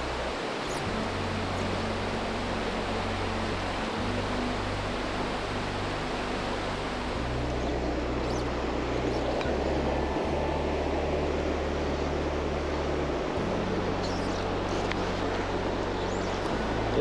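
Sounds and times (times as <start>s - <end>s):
low steady hum: 0.0s - 17.0s
river water rushing over rocks: 0.0s - 17.0s.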